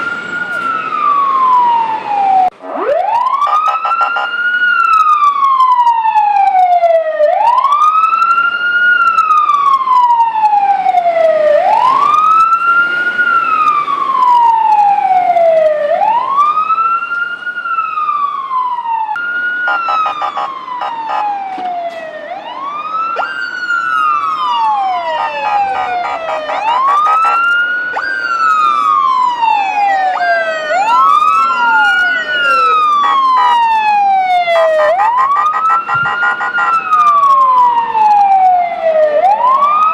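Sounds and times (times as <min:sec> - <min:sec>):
fire engine siren wailing: 0:00.0 - 0:39.9
second siren wailing: 0:00.0 - 0:39.9.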